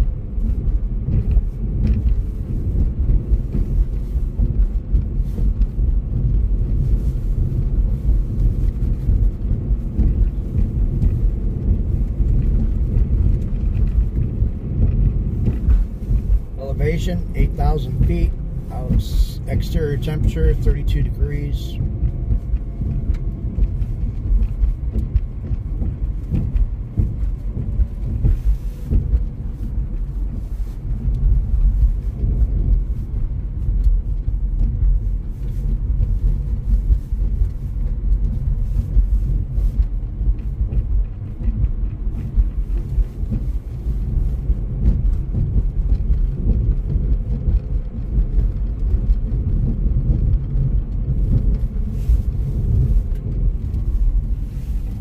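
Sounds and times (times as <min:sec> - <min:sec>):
car driving cabin rumble: 0:00.0 - 0:55.0.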